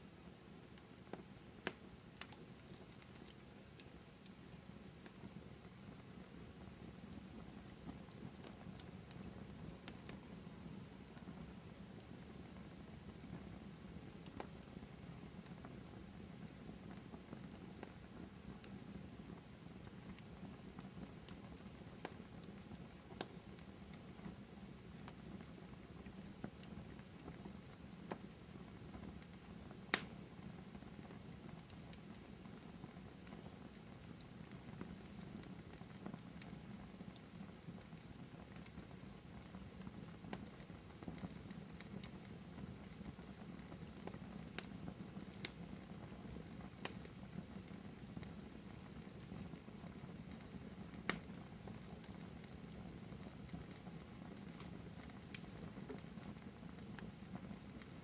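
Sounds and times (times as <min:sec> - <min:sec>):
fire crackles and pops: 0:00.0 - 0:58.0.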